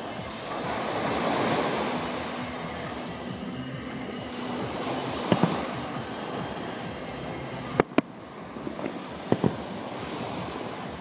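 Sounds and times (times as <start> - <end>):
surf washing on beach: 0.0 - 11.0.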